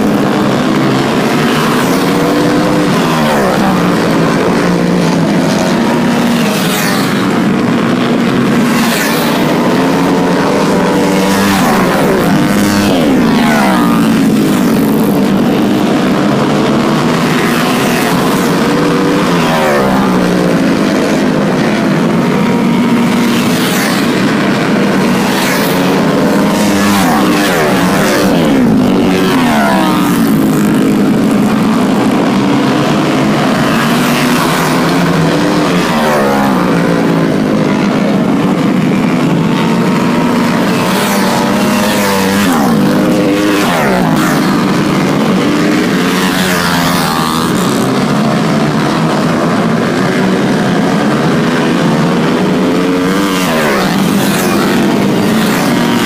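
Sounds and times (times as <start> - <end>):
racing motorcycle engines: 0.0 - 56.0.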